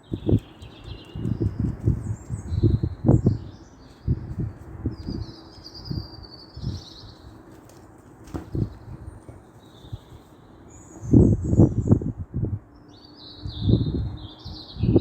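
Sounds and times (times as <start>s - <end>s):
small birds chirping: 0.0s - 12.1s, 12.7s - 15.0s.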